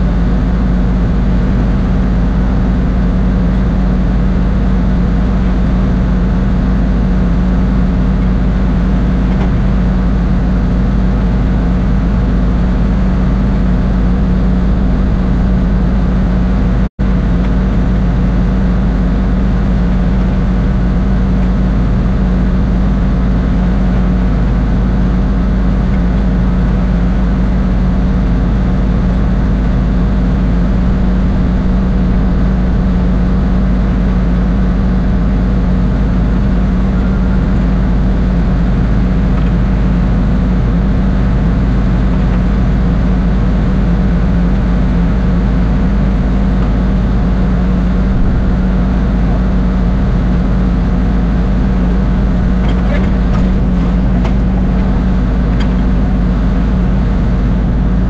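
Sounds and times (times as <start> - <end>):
engine drone with low hum: 0.0 - 58.0.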